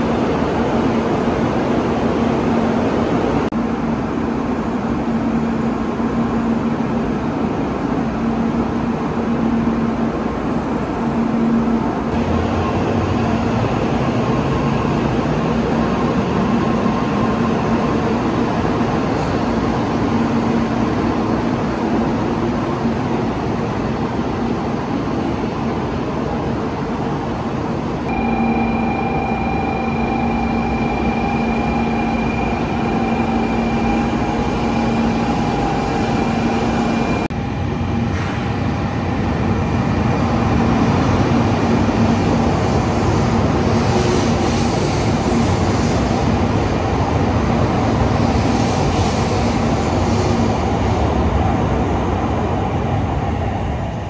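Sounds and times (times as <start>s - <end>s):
moving train rumble: 0.0s - 54.0s
train electrical hum: 0.0s - 54.0s.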